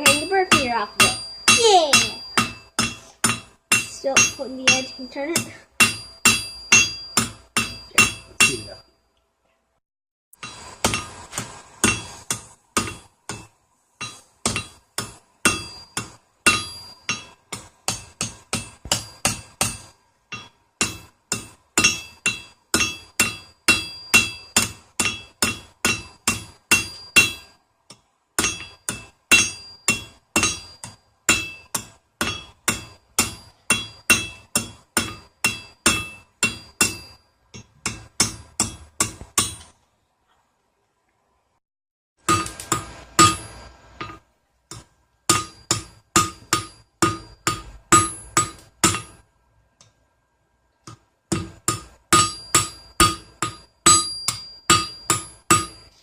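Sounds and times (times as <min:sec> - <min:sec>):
hammer striking steel on anvil: 0:00.0 - 0:08.9, 0:10.4 - 0:39.8, 0:42.2 - 0:49.3, 0:50.8 - 0:55.9.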